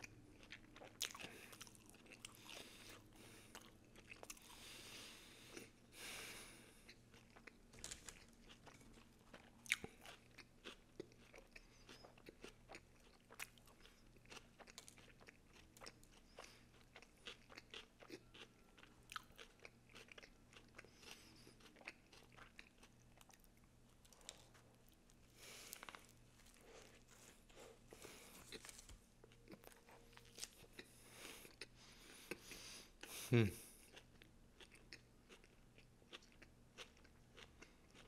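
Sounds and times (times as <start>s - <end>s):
person chewing crunchy food: 0.0s - 33.1s, 33.8s - 38.0s.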